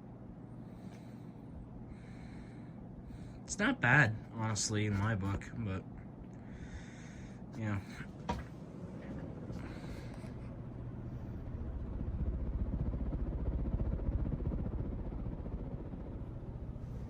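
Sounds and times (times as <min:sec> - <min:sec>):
ceiling fan running: 0:00.0 - 0:17.0.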